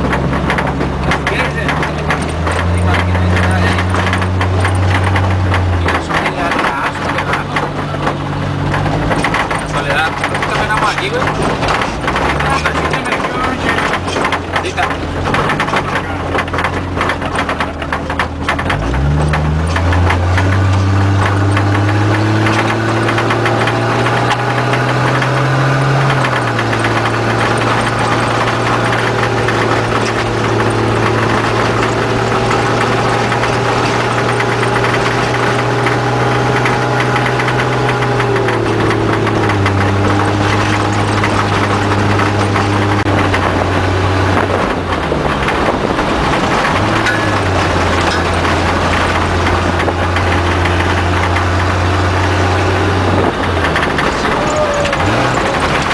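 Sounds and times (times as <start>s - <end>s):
cab rattles: 0.0s - 55.9s
engine running hard: 0.0s - 55.9s.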